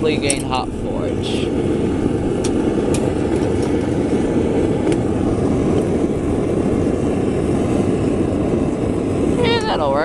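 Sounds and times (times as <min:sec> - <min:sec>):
forge burner rushing: 0:00.0 - 0:10.0.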